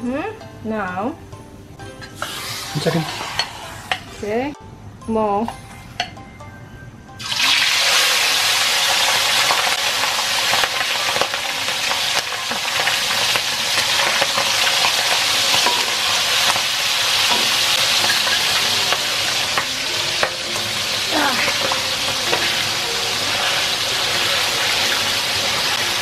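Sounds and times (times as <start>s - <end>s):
meat sizzling in hot oil: 2.2s - 4.2s, 7.2s - 26.0s.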